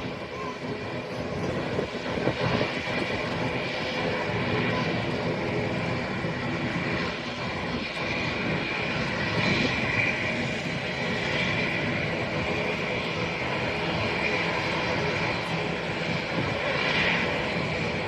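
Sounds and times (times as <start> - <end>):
jet engines whining and rumbling: 0.0 - 18.0.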